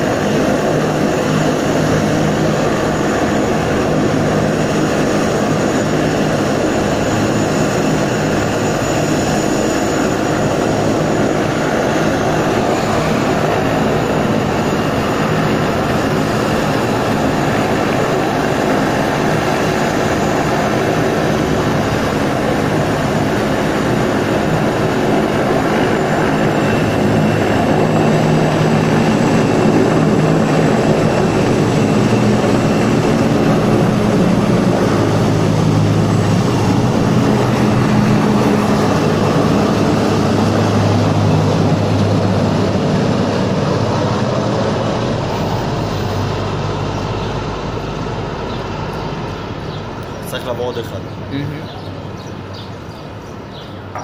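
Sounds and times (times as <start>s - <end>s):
helicopter rotor and turbine noise: 0.0s - 54.0s.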